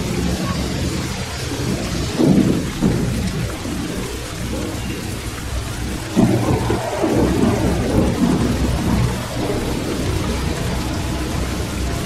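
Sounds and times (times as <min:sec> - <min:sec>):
steady rain falling: 0:00.0 - 0:12.0
thunder rumbling: 0:00.0 - 0:12.0.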